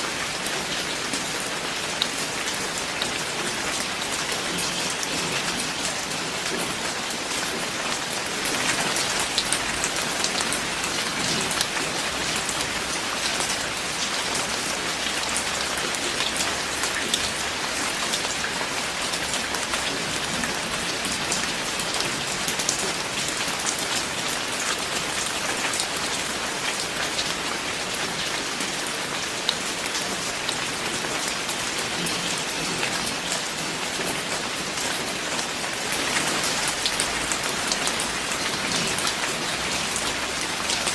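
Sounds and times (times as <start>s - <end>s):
heavy rain falling: 0.0s - 40.9s
raindrops ticking on a surface: 0.1s - 40.9s.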